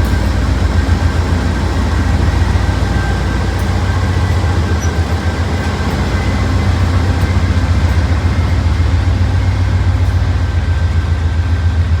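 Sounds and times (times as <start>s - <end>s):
locomotive engine rumbling: 0.0s - 12.0s.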